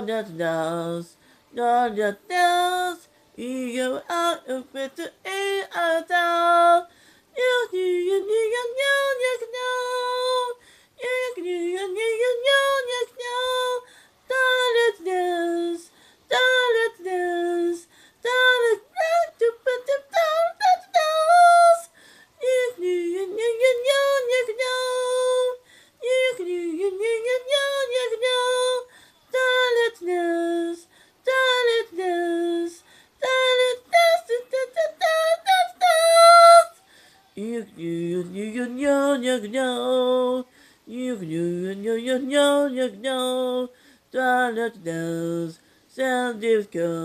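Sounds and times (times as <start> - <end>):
high voice singing unaccompanied: 0.0 - 47.0.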